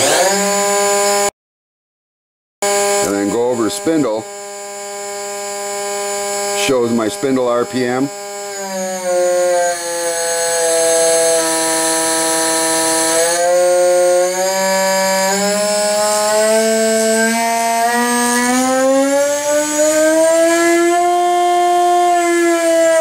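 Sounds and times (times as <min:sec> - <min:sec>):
router spindle whine: 0:00.0 - 0:01.3, 0:02.6 - 0:23.0.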